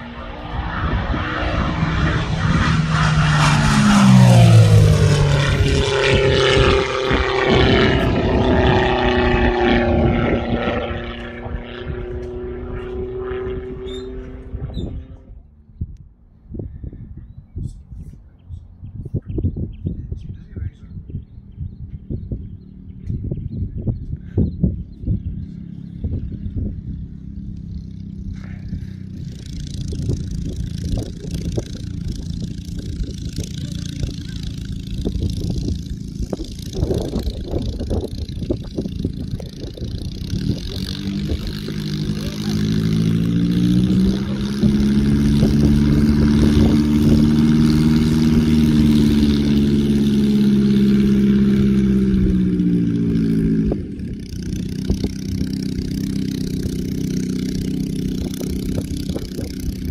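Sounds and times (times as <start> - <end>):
light aircraft engine and propeller: 0.0 - 59.9
wind buffeting microphone: 0.0 - 59.9.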